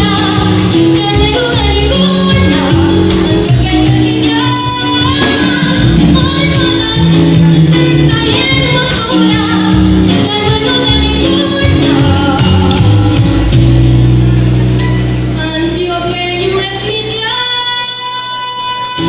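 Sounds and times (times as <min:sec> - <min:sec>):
girl singing through microphone: 0:00.0 - 0:13.5, 0:15.4 - 0:19.0
live band playing: 0:00.0 - 0:19.0.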